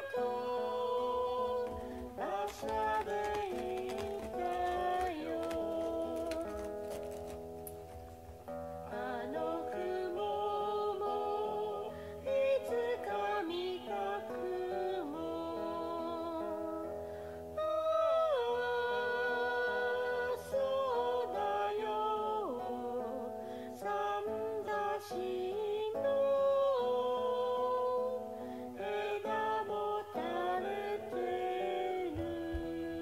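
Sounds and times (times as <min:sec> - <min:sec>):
person singing slowly: 0:00.0 - 0:07.0, 0:08.9 - 0:33.0.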